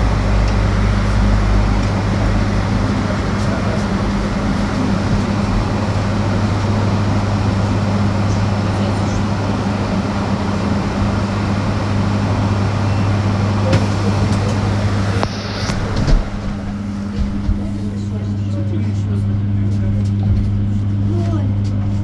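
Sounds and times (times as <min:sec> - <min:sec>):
road and tyre rumble: 0:00.0 - 0:18.2
constant low hum: 0:00.0 - 0:22.0.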